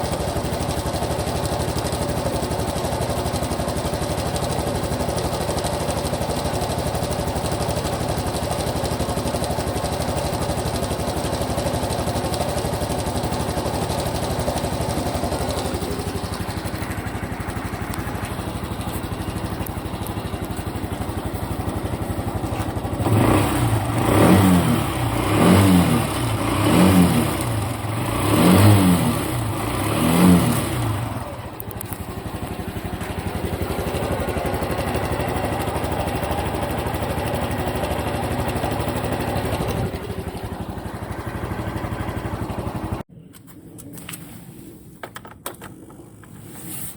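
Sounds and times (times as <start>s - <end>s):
motorcycle engine idling and revving: 0.0s - 43.1s.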